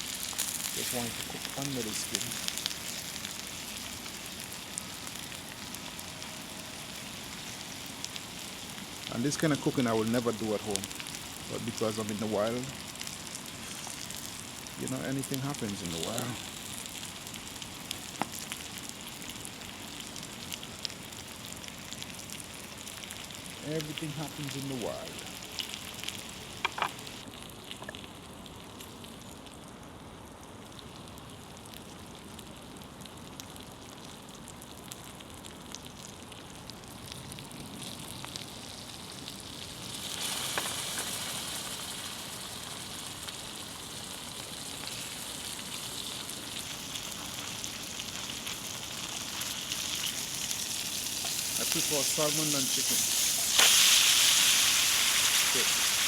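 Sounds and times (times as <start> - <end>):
food sizzling in a pan: 0.0 - 27.3, 37.9 - 56.0.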